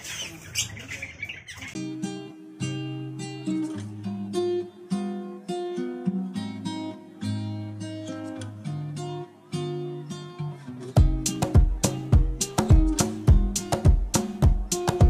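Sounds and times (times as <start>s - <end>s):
acoustic guitar playing: 1.7s - 15.0s.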